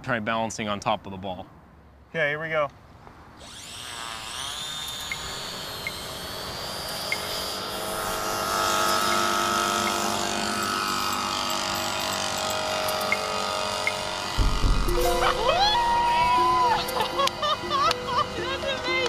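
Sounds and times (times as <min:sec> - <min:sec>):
propeller motor whining: 0:03.4 - 0:19.0.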